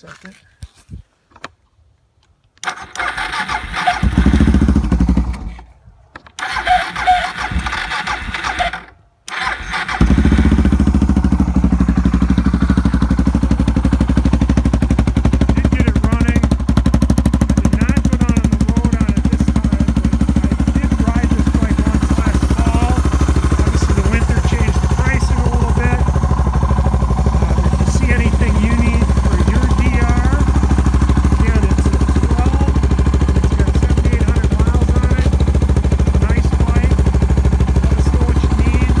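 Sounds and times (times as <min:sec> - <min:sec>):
motorcycle engine starting and idling: 0:02.6 - 0:39.0.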